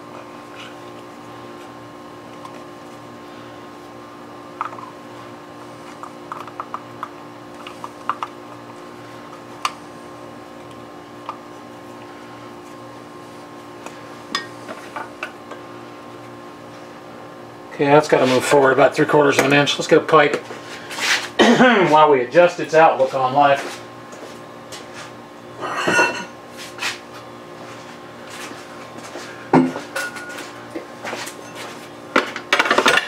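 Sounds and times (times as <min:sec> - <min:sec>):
steady background hum: 0:00.0 - 0:33.0.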